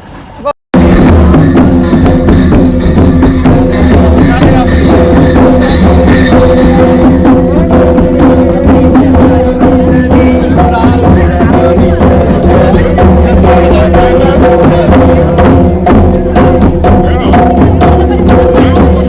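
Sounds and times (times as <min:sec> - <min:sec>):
drums: 0:00.0 - 0:19.0
fast clattering percussion: 0:00.0 - 0:19.0.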